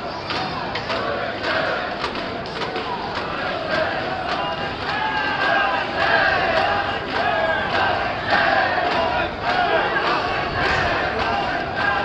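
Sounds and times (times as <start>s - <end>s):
crowd chanting in unison: 0.0s - 12.0s.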